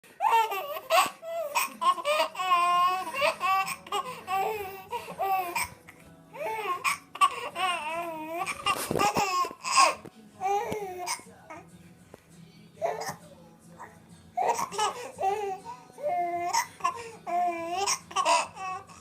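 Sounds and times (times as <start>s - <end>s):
baby laughing: 0.2s - 11.6s, 14.4s - 19.0s.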